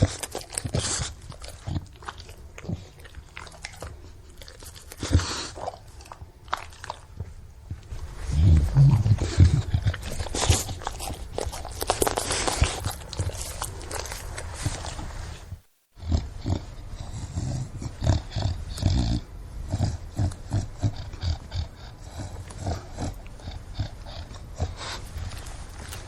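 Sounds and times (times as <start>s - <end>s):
dog breathing noisily with snorts: 0.0s - 26.0s.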